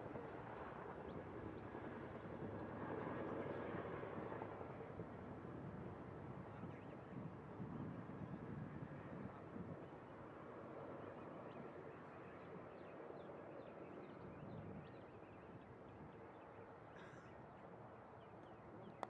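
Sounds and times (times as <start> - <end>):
low outdoor background noise: 0.0 - 19.0.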